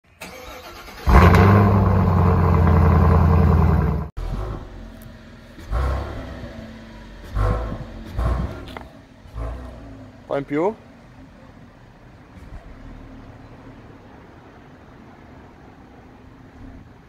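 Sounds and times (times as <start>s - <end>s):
engine throttle blips: 0.2s - 14.0s
car exhaust idling: 1.1s - 15.0s.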